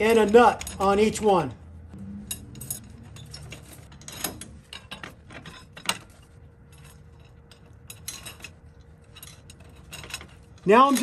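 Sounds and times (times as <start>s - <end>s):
metal washers and nuts clicking: 0.0s - 1.3s, 2.2s - 11.0s.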